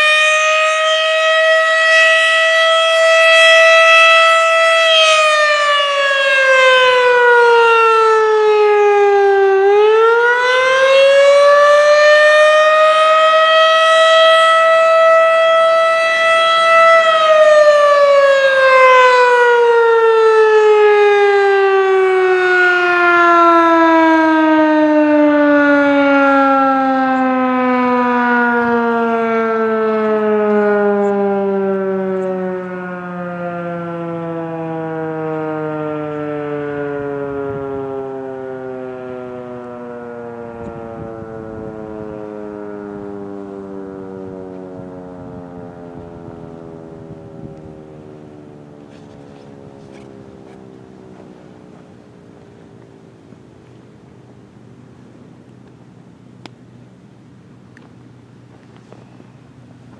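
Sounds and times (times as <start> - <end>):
tornado siren wailing: 0.0 - 59.9.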